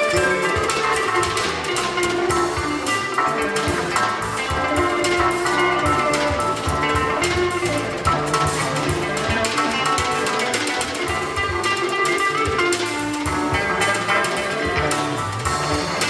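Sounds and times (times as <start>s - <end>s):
drum kit with cymbals: 0.0s - 16.0s
electric guitar playing: 0.0s - 16.0s.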